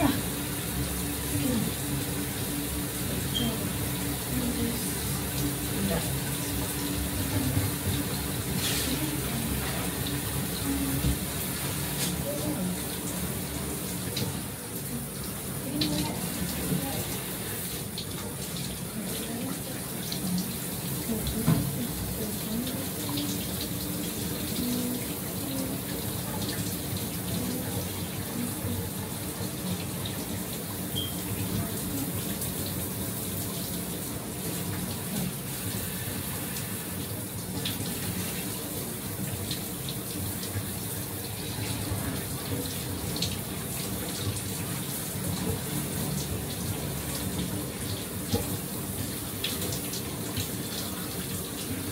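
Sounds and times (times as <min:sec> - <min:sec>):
shower water spraying: 0:00.0 - 0:51.9.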